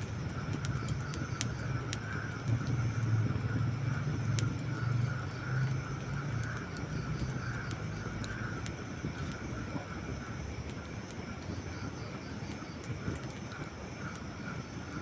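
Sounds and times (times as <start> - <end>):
campfire crackles and pops: 0.0 - 15.0
campfire rumbling: 0.0 - 15.0.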